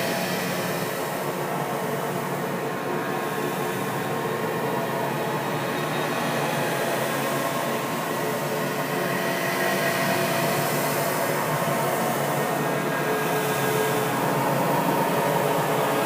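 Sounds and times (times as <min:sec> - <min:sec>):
dense hiss-like drone: 0:00.0 - 0:16.0.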